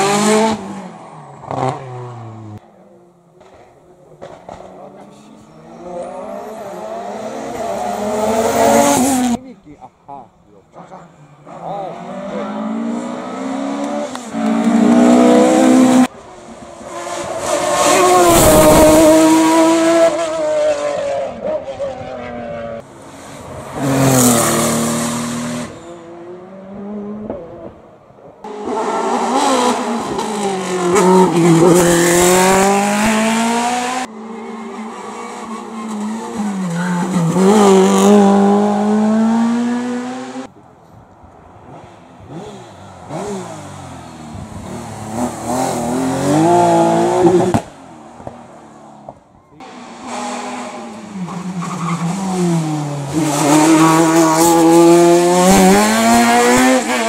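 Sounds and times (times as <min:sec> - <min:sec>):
race car engines revving high: 0:00.0 - 0:02.6, 0:04.2 - 0:09.4, 0:11.3 - 0:27.8, 0:28.4 - 0:40.5, 0:41.6 - 0:57.0.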